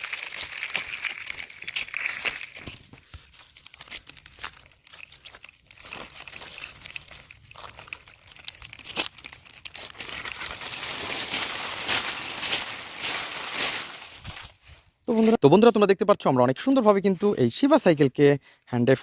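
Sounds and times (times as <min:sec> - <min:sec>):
leaves crackling and rustling: 0:00.0 - 0:15.4.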